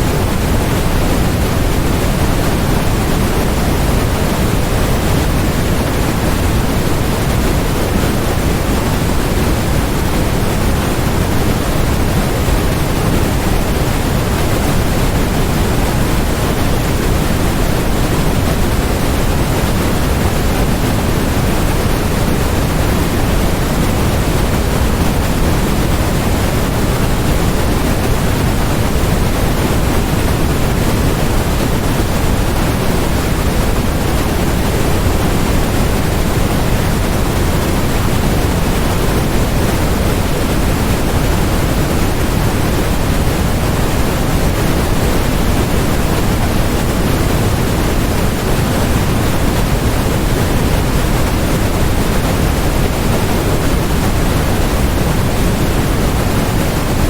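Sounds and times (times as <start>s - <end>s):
generated noise hiss: 0.0s - 57.0s.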